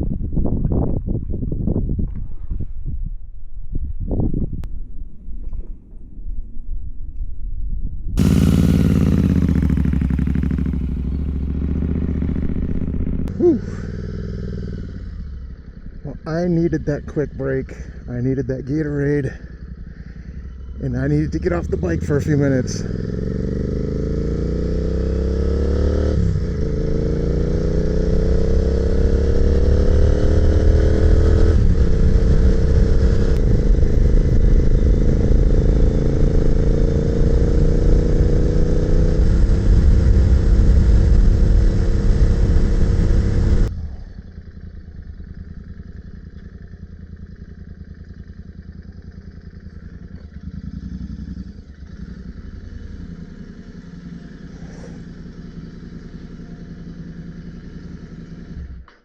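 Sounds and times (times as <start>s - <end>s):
motorcycle engine accelerating: 8.2s - 59.0s
road noise: 8.2s - 59.0s.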